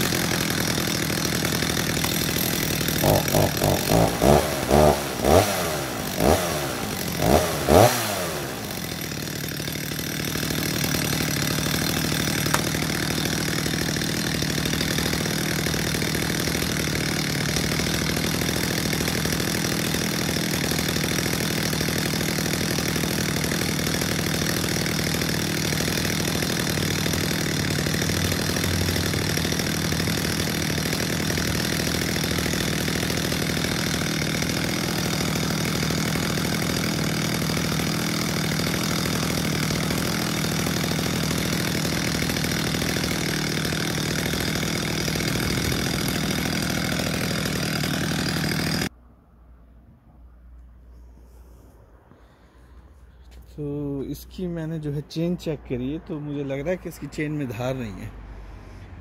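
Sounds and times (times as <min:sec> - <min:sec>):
chainsaw revving and idling: 0:00.0 - 0:49.0, 0:52.2 - 0:59.0.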